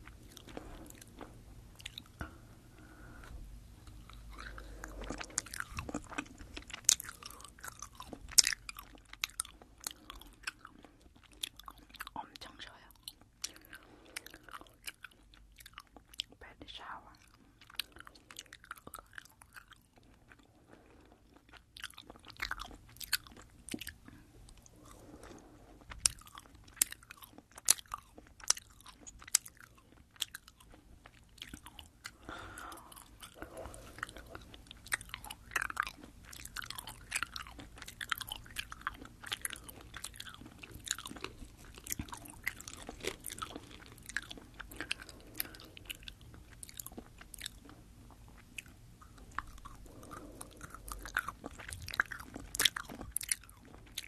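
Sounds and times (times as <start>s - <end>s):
chewing gummy candies: 0.0s - 54.0s.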